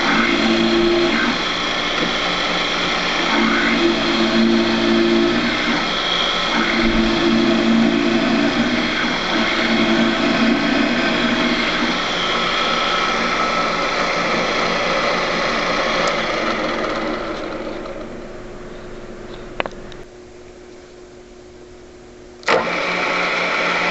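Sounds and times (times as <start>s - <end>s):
drill press motor running: 0.0s - 19.7s, 22.4s - 23.9s.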